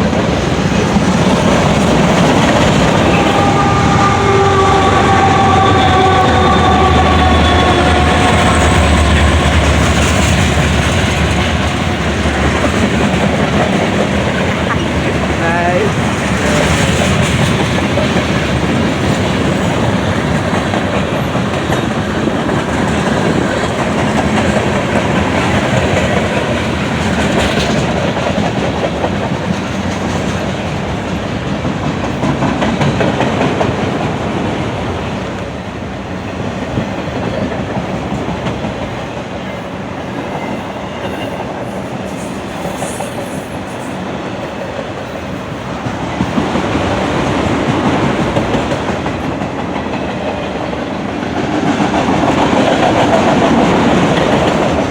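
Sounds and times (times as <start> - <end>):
freight train wheels rumbling on rails: 0.0 - 54.9.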